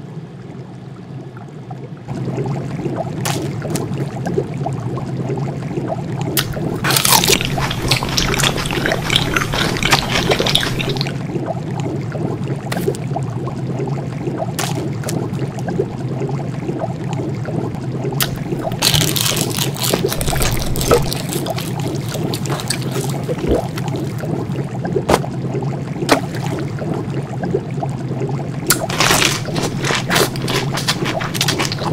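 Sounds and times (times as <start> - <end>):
broth bubbling and gurgling: 0.0 - 31.9
steady low hum: 0.0 - 31.9.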